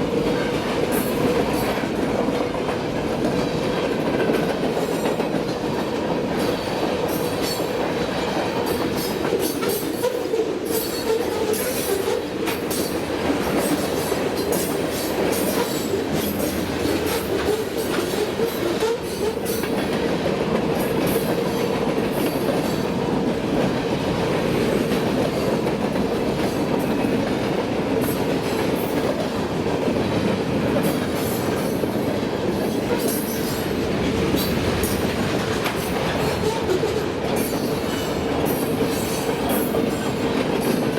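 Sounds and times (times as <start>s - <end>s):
hum of wheels on rail: 0.0s - 40.9s.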